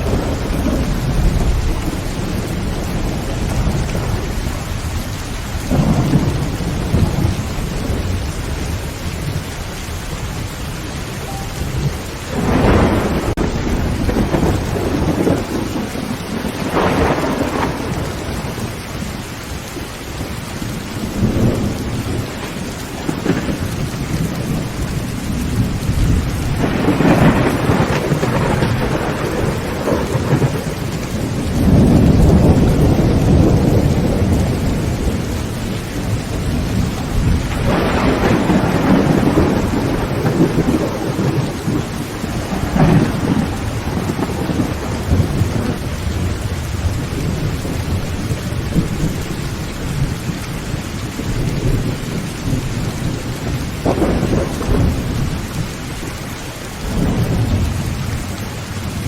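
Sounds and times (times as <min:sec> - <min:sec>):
rain on a tin roof: 0:00.0 - 0:59.0
thunder rumbling: 0:00.0 - 0:59.0.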